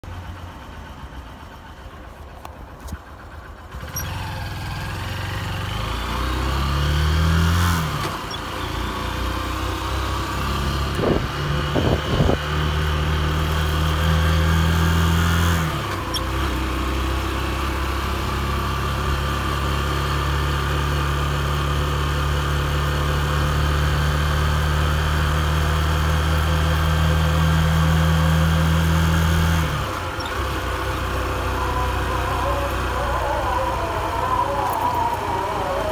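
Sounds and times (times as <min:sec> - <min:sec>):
motorcycle engine revving: 0:02.7 - 0:35.9.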